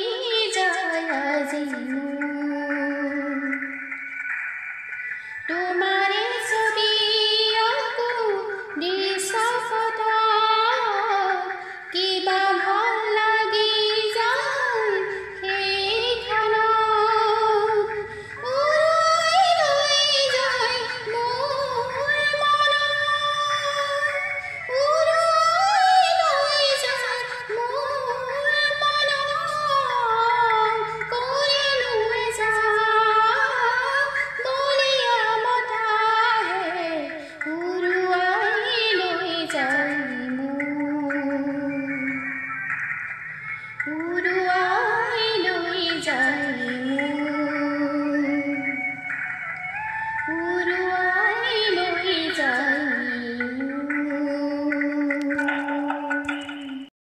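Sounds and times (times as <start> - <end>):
woman singing: 0.0 - 4.0, 5.4 - 42.4, 43.8 - 56.9.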